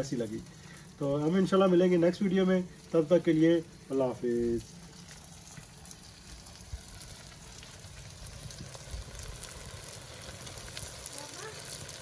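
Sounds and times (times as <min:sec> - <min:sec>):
fire crackling: 0:00.0 - 0:12.0
food sizzling in a pan: 0:00.0 - 0:12.0.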